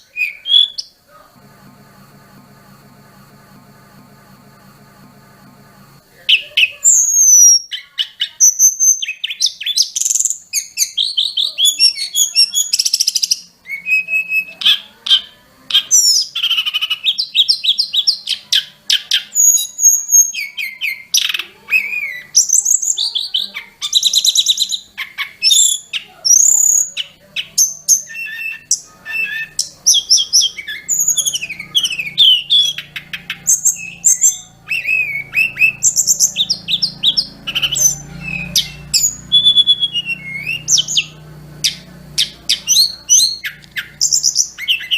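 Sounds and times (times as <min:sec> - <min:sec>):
bird singing whistles and trills: 0:00.0 - 0:01.0, 0:06.3 - 0:44.9.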